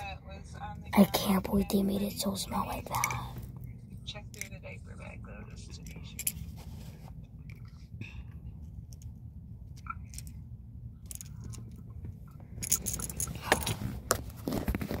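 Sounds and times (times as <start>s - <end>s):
low car hum: 0.0s - 15.0s.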